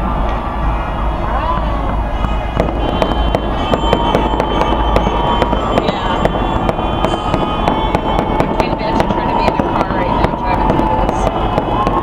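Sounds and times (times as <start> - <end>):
fireworks cracking and popping: 1.6 - 12.0.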